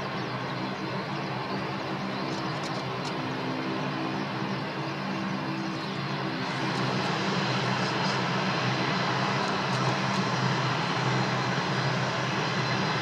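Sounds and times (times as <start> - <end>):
jet engines humming: 0.0 - 13.0.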